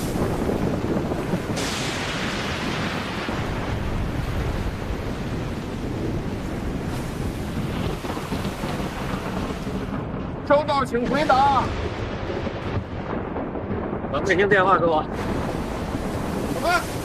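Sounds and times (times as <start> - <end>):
heavy waves: 0.0 - 13.4, 14.1 - 17.0
water lashing windows: 0.0 - 17.0
wind: 0.0 - 17.0.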